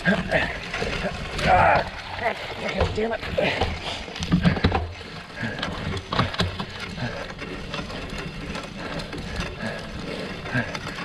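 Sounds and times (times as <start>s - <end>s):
bike frame rattling: 0.0s - 11.0s
tyre noise: 0.0s - 11.0s.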